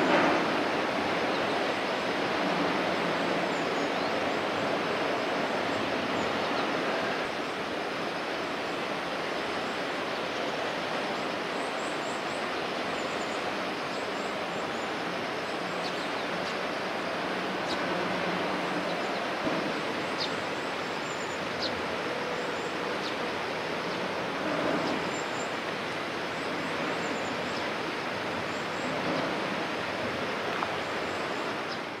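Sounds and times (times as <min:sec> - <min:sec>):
rushing water: 0:00.0 - 0:32.0
wind: 0:00.0 - 0:32.0.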